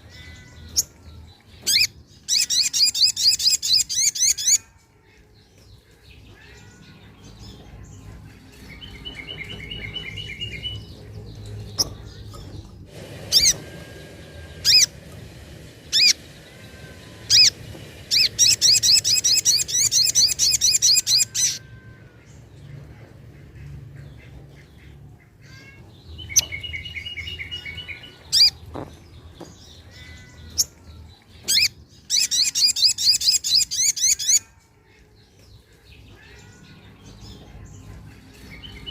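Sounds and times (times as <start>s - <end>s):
bird calling with buzzy trills: 0.0s - 38.9s.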